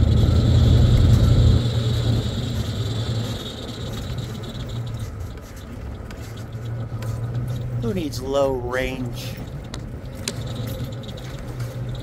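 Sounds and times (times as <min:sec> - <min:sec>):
off-road vehicle engine pulling uphill: 0:00.0 - 0:12.0.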